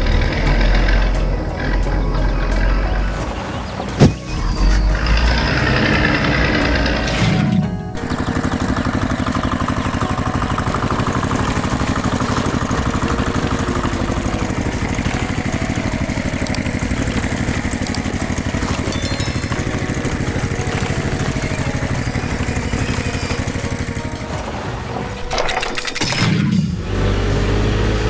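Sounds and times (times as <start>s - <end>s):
tractor engine chugging: 0.0s - 28.0s.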